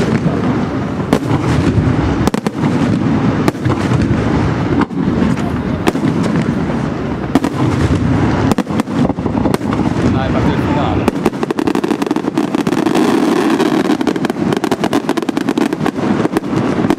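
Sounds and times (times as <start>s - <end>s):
fireworks booms and cracks: 0.0s - 16.9s.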